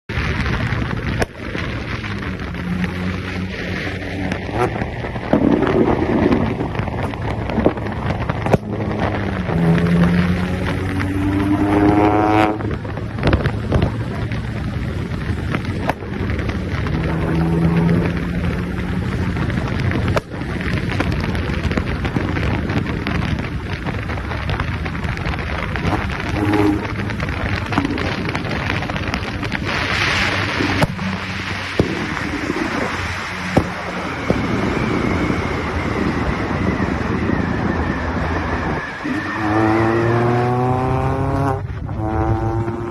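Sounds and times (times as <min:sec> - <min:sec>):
car engine running hard: 0:00.1 - 0:42.9
sharp exhaust pops: 0:00.4 - 0:35.0.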